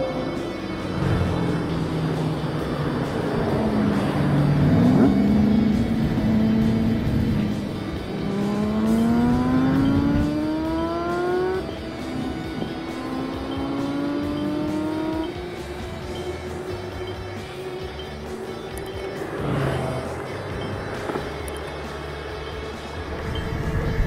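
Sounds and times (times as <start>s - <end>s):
vehicle accelerating: 0.0s - 24.0s.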